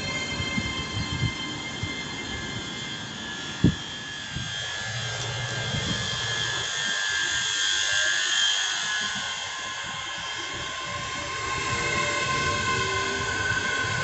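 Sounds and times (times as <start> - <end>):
electric train traction whine: 0.0 - 14.0.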